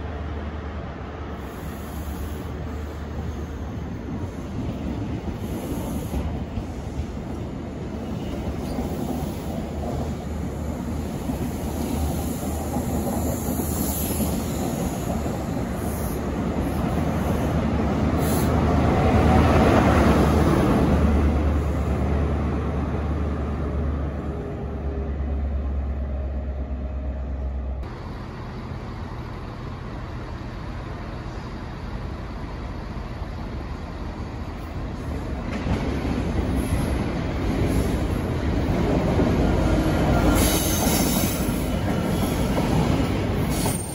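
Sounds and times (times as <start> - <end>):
distant train rumble: 0.0 - 43.9
passenger train rumble and rail noise: 0.0 - 43.9.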